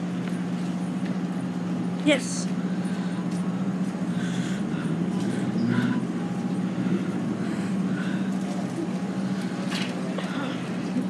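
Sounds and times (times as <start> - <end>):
train equipment humming: 0.0 - 11.0
people moving about: 0.1 - 11.0.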